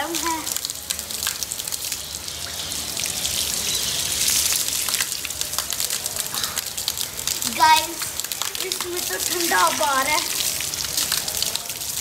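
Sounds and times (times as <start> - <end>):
rain pattering: 0.0 - 12.0
water splashing on concrete floor: 0.0 - 12.0.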